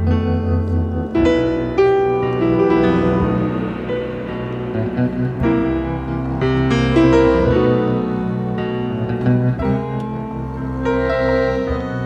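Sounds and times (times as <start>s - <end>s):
piano background music: 0.0s - 12.0s.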